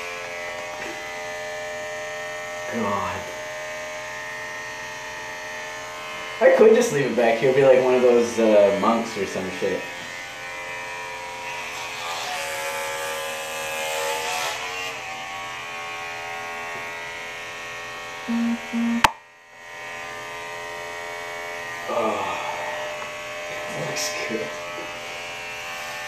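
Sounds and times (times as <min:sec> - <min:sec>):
electric hair clippers buzzing: 0:00.0 - 0:06.4, 0:08.6 - 0:21.9, 0:22.6 - 0:26.0.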